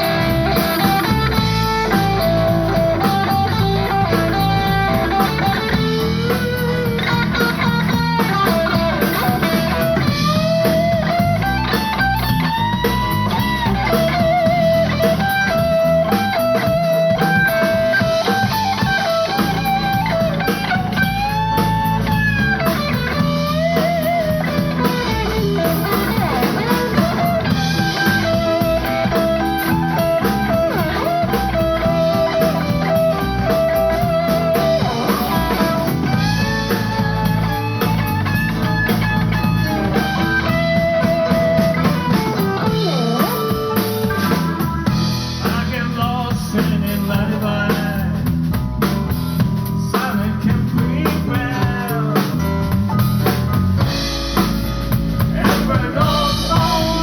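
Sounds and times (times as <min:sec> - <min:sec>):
blues band playing: 0:00.0 - 0:57.0
electric guitar lead: 0:00.0 - 0:57.0.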